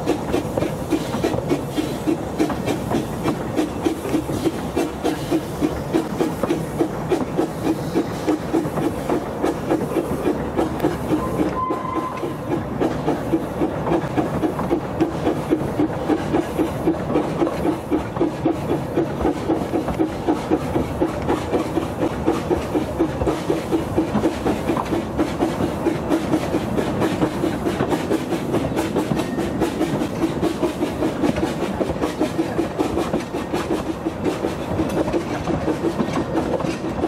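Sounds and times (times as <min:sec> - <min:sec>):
train running noise: 0:00.0 - 0:37.0
train wheels clattering rhythmically: 0:00.0 - 0:37.0.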